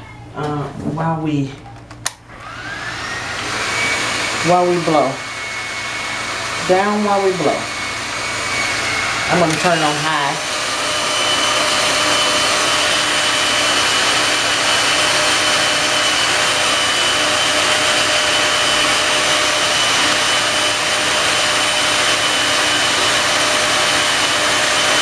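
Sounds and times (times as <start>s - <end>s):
blow dryer running: 2.0s - 25.0s.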